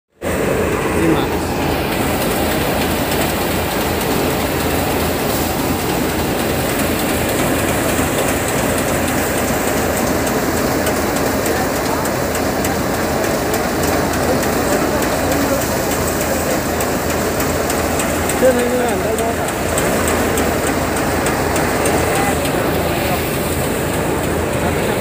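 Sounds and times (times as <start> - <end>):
threshing machine rumbling: 0.2 - 25.0.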